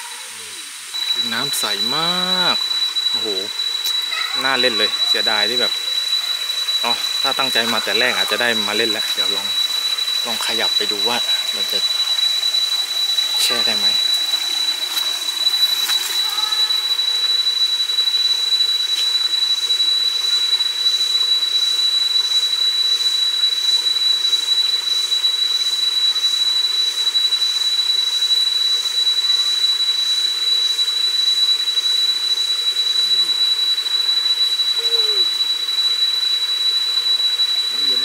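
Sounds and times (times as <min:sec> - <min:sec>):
cicadas droning: 0:00.0 - 0:38.0
pulsing insect call: 0:00.0 - 0:38.0.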